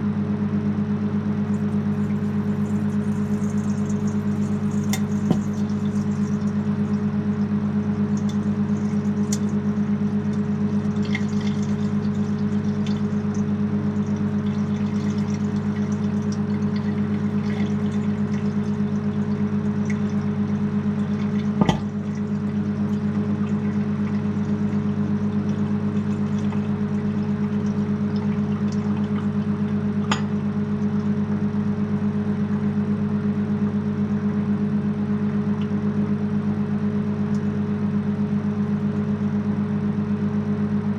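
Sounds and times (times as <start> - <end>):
microwave oven humming: 0.0 - 40.9.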